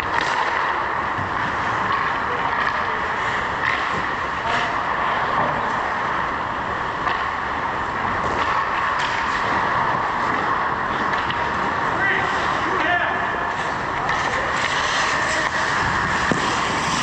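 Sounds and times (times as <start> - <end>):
distant knocks from hockey play: 0.0 - 6.0, 6.9 - 17.0
indoor arena hum: 0.0 - 17.0.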